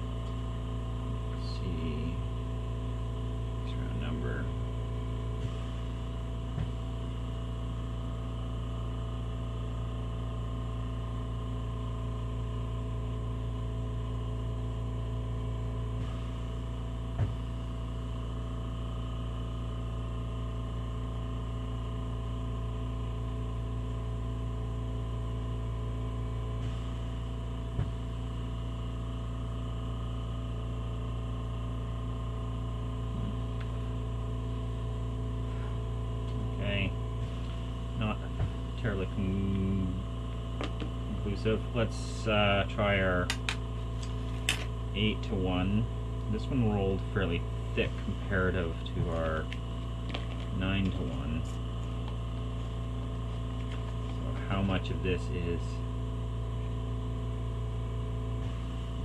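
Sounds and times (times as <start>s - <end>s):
torch burning with steady hum: 0.0s - 59.0s.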